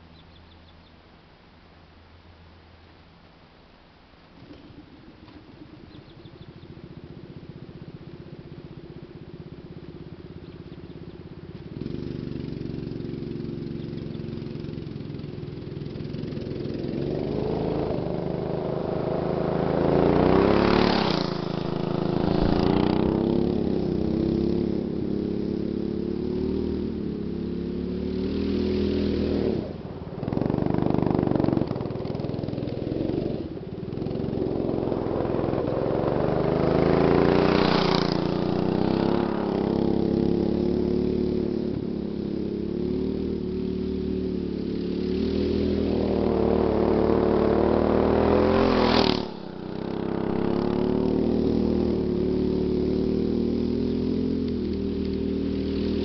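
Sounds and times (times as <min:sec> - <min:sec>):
go-kart engine revving: 0:10.9 - 0:56.0.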